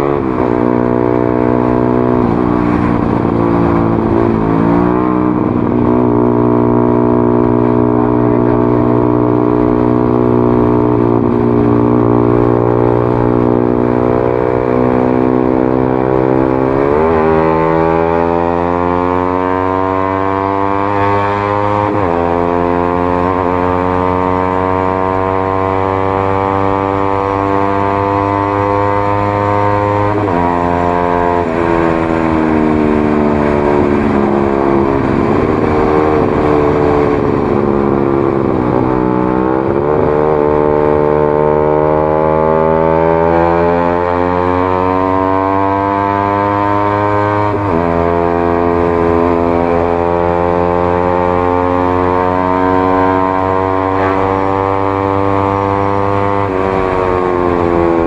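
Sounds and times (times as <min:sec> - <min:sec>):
motorcycle engine drone: 0:00.0 - 0:58.0.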